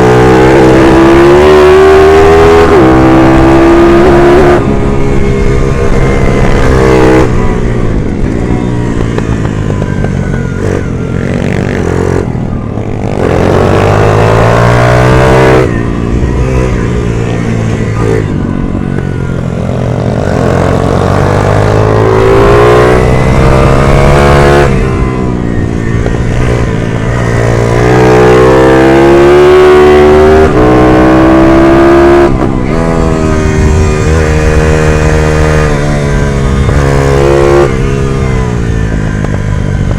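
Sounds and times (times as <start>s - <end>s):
minibike engine revving: 0.0s - 39.9s.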